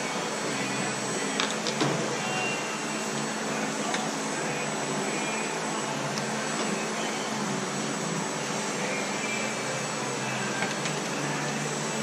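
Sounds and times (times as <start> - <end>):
machine hum and hiss: 0.0 - 12.0.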